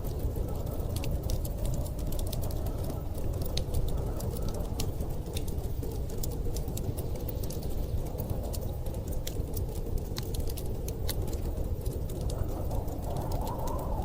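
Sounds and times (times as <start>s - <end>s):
blizzard wind rushing: 0.0s - 14.0s
wood fire crackling: 0.0s - 14.0s.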